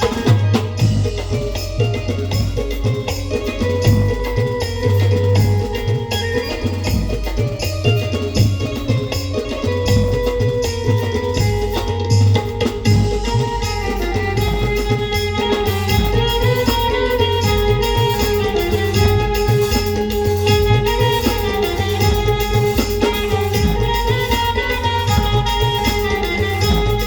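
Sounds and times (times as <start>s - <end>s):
live band playing folk song: 0.0s - 27.0s
steady drum and percussion beat: 0.0s - 27.0s.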